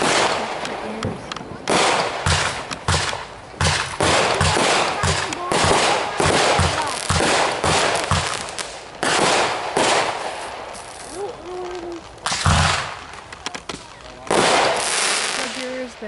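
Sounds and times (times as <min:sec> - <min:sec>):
fireworks exploding: 0:00.0 - 0:16.0.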